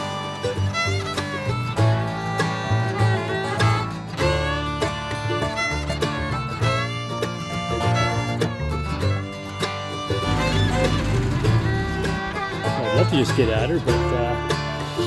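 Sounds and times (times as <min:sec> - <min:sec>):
bluegrass music with guitar and fiddle: 0:00.0 - 0:15.0.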